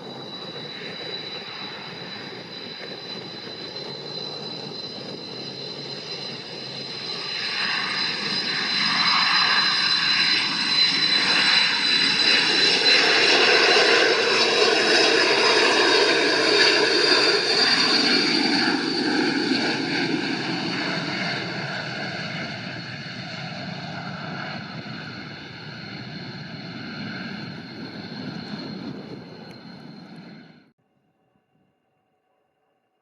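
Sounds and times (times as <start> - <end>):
jet engines roaring with high whine: 0.0 - 30.7.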